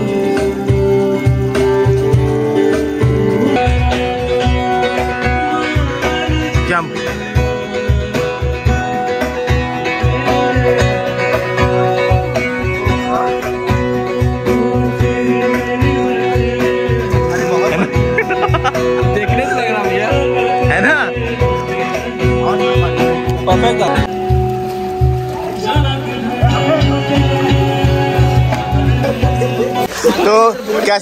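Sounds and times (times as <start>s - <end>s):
plucked guitar over beat: 0.0s - 30.9s.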